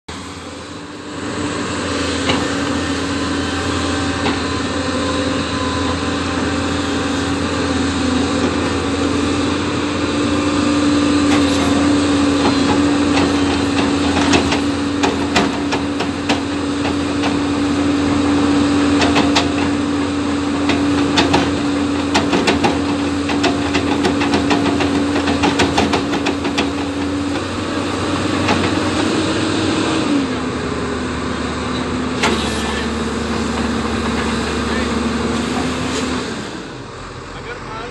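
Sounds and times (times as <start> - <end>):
machine engine hum: 0.1 - 37.9.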